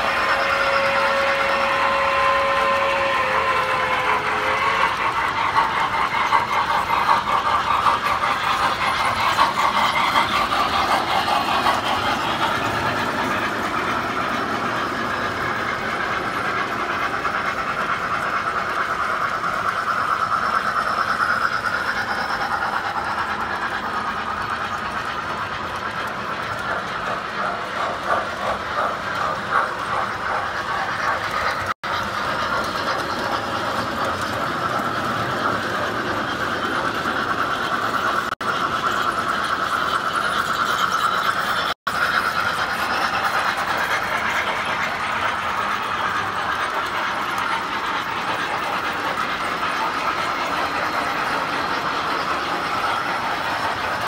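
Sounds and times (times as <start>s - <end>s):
toy train wheels clattering on rails: 0.0s - 54.0s.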